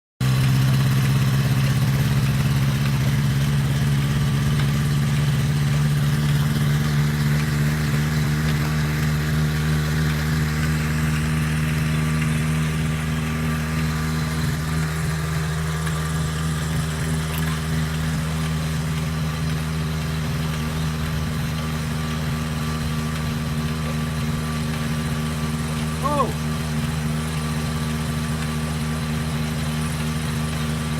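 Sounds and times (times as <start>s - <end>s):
brush-cutter engine droning: 0.2s - 30.9s.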